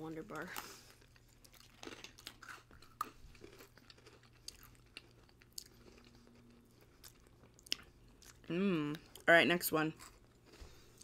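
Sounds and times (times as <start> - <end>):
chewing crunchy biscuit sticks: 0.2 - 11.0.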